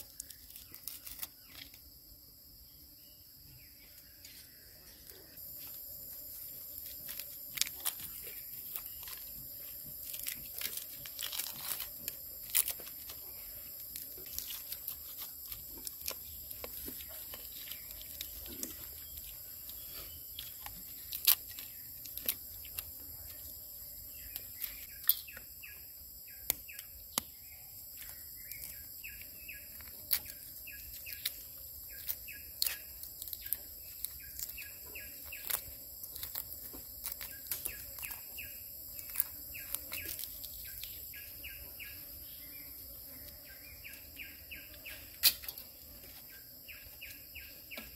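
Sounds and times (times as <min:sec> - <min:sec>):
insect drone: 0:00.0 - 0:47.9.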